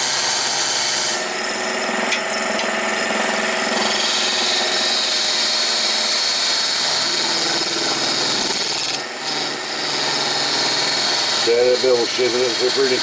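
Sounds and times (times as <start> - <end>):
lathe motor hum: 0.0 - 13.0
lathe tool cutting wood: 0.0 - 13.0.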